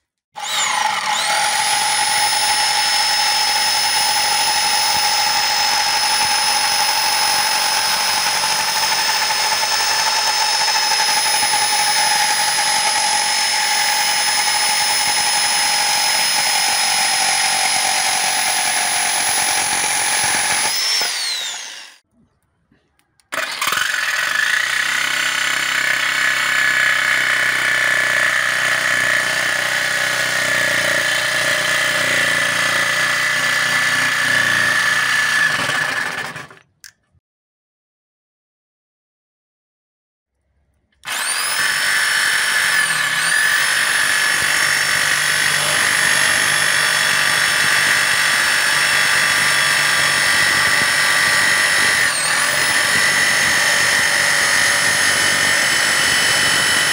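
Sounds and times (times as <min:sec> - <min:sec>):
electric jigsaw sawing wood: 0:00.3 - 0:22.0, 0:23.3 - 0:36.7, 0:41.0 - 0:56.9.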